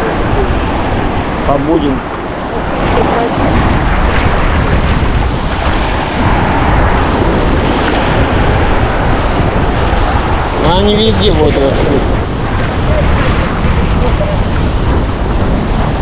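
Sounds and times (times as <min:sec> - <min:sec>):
sea waves washing onto beach: 0:00.0 - 0:16.0
wind rumbling on microphone: 0:00.0 - 0:16.0.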